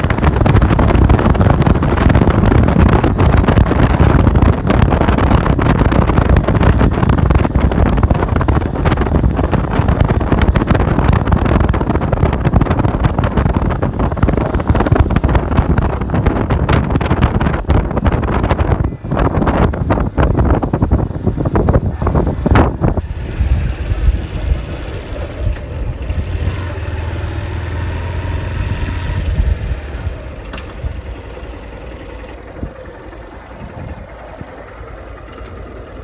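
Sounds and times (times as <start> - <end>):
motorcycle engine droning: 0.0 - 36.0
wind buffeting microphone: 0.0 - 36.0.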